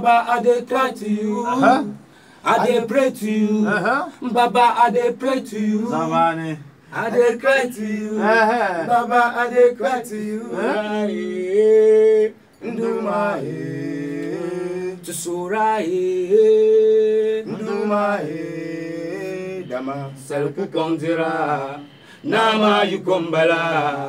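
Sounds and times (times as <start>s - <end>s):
men singing prayer song: 0.0s - 24.0s.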